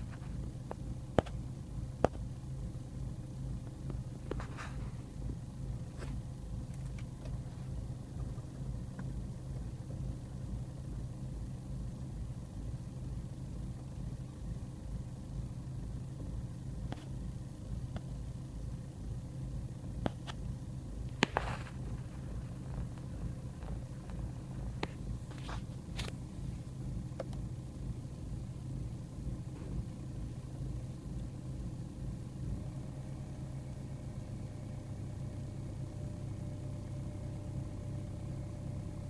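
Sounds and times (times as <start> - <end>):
diesel engine idling roughly: 0.0 - 39.0.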